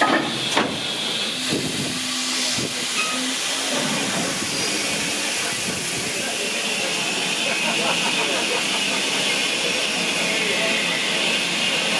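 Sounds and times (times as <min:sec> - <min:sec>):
steam locomotive hissing: 0:00.1 - 0:11.9.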